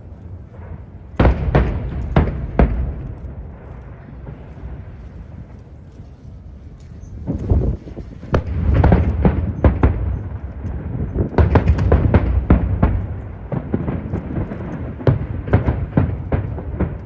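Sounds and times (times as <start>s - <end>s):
fireworks bangs: 0.0s - 5.6s, 7.1s - 17.0s
deep rolling rumble: 0.0s - 17.0s.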